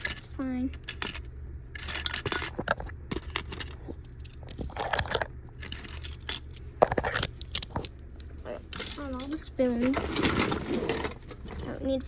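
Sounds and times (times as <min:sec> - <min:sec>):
toy dishes clinking and rattling: 0:00.0 - 0:12.0.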